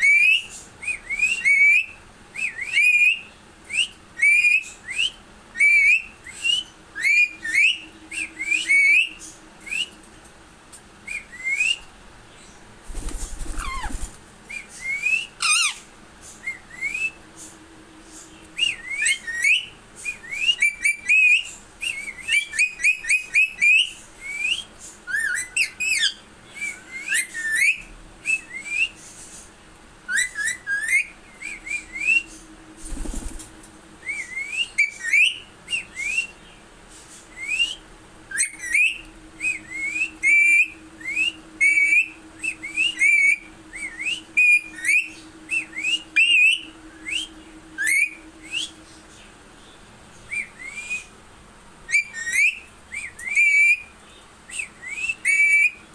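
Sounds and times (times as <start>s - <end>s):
parakeet whistling and chirping: 0.0s - 10.0s, 11.0s - 17.2s, 18.6s - 29.3s, 30.0s - 33.3s, 34.0s - 36.5s, 37.3s - 48.9s, 50.3s - 51.2s, 51.9s - 55.9s.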